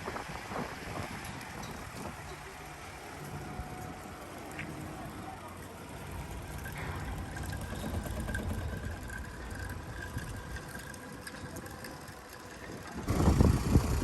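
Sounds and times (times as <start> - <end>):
engine idling: 1.8 - 14.0.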